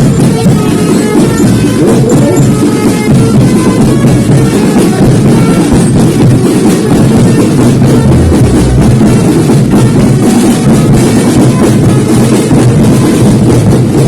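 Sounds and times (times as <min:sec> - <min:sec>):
marching drum band: 0:00.0 - 0:14.0.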